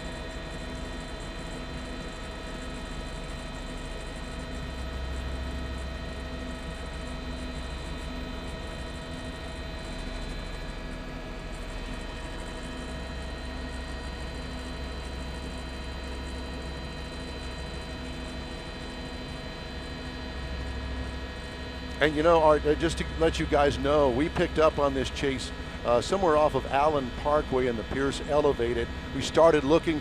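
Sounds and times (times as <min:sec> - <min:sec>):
helicopter engine and rotor hum: 0:00.0 - 0:30.0.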